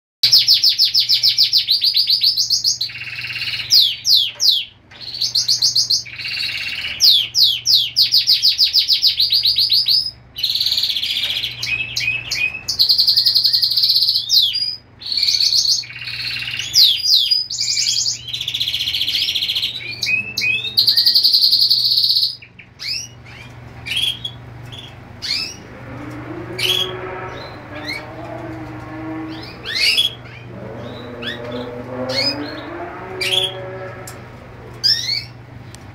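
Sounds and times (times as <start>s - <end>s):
canary singing and chirping: 0.2s - 35.9s.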